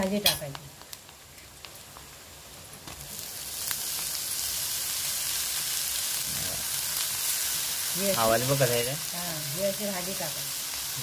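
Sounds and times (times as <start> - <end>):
greens frying in hot oil: 0.0 - 11.0.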